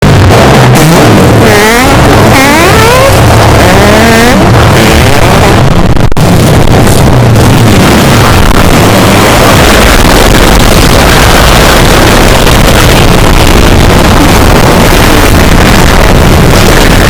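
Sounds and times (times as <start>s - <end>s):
distorted fart sound effects: 0.0s - 17.0s.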